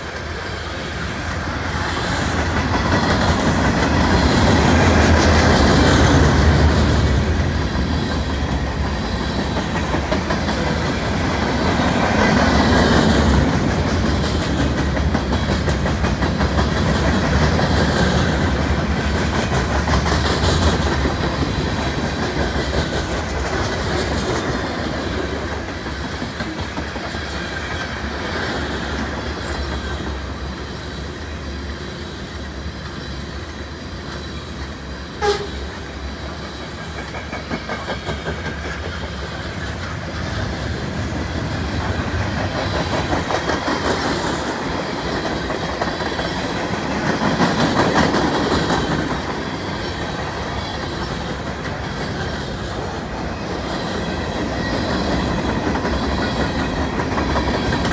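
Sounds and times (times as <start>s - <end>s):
clickety-clack over rail joints: 0.0s - 57.9s
freight train wheels rumbling: 0.0s - 57.9s.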